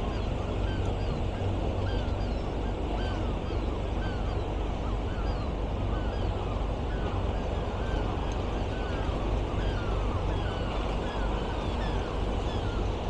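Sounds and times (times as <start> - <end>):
gulls calling: 0.0 - 13.0.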